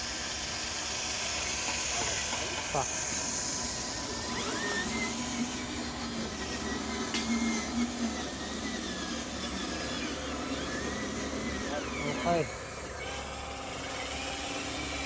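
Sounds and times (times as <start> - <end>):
electric motor whirring: 0.0 - 15.0.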